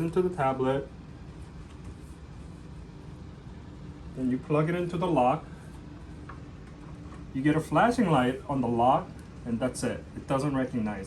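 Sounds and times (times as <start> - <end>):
low background hum and hiss: 0.0 - 11.0.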